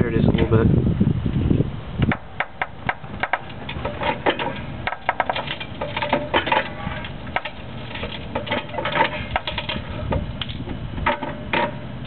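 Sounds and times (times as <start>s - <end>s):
car suspension creaking and clicking: 2.0s - 12.0s.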